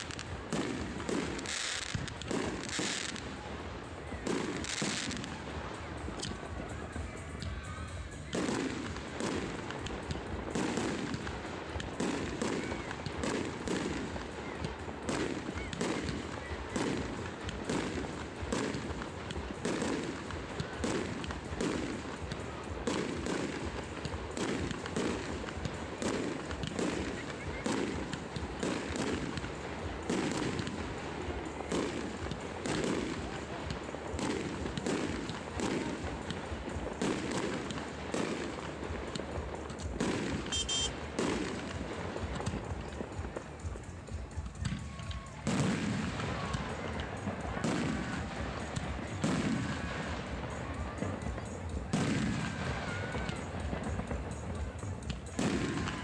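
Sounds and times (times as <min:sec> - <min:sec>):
fireworks bursting: 0:00.0 - 0:56.0
music playing: 0:00.0 - 0:56.0.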